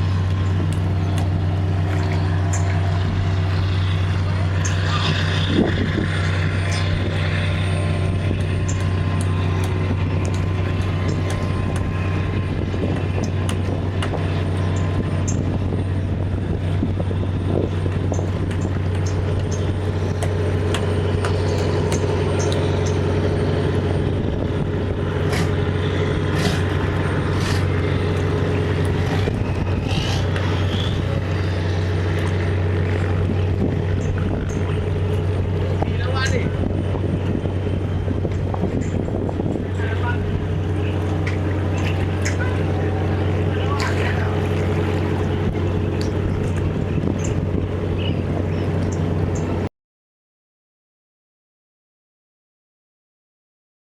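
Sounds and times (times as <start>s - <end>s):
engine humming: 0.0s - 49.7s.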